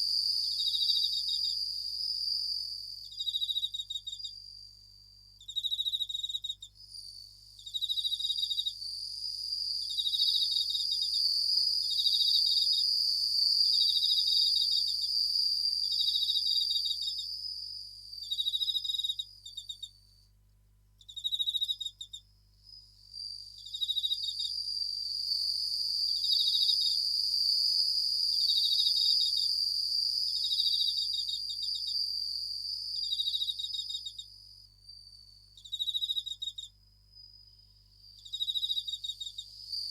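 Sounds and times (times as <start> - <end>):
crickets high ringing trill: 0.0 - 20.0, 21.0 - 39.9
crickets pulsed chirps: 0.0 - 20.4, 21.0 - 39.9.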